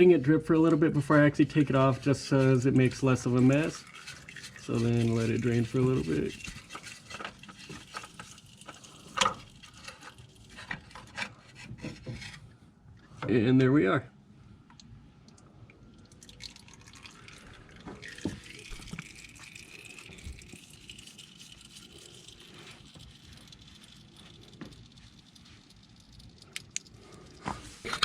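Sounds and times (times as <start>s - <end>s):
oil trickling and dripping: 0.0s - 11.5s, 14.7s - 27.9s.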